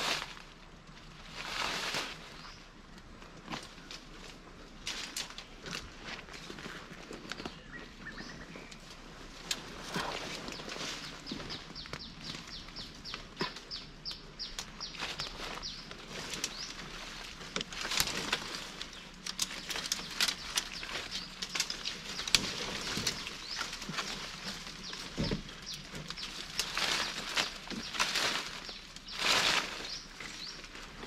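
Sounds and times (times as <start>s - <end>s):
rustling: 0.0s - 31.0s.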